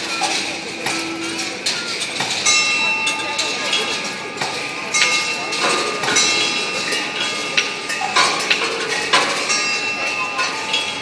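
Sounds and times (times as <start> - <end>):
ball circling in steel bowl: 0.0 - 11.0
balls clattering on metal tracks: 0.0 - 11.0
steady metallic ringing: 0.0 - 11.0.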